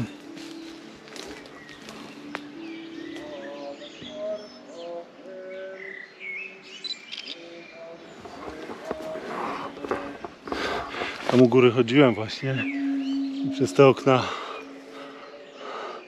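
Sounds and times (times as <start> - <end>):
birds singing and calling: 0.0 - 16.0.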